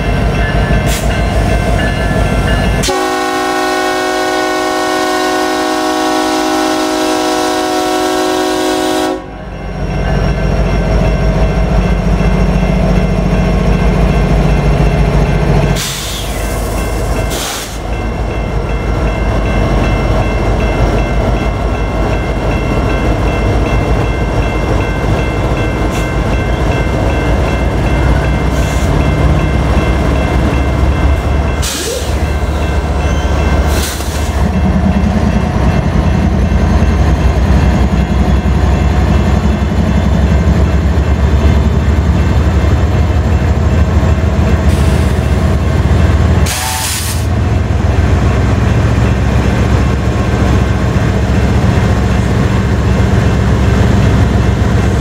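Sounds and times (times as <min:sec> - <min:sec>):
diesel locomotive engines rumbling: 0:00.0 - 0:55.0.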